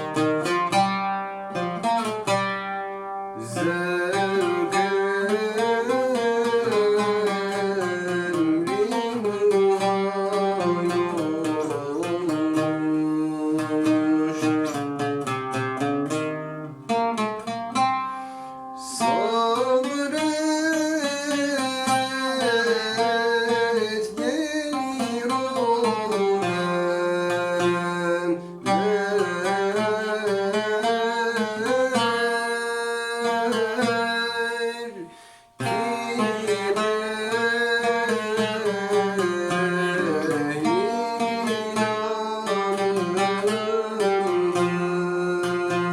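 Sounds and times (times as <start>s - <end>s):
person singing long bending notes: 0.0s - 16.8s, 18.8s - 45.9s
plucked string instrument: 0.0s - 45.9s.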